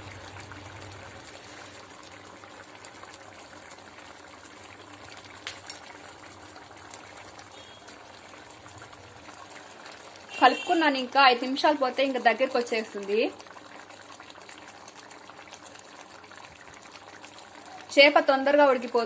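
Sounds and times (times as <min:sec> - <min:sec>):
curry bubbling in pot: 0:00.0 - 0:19.0.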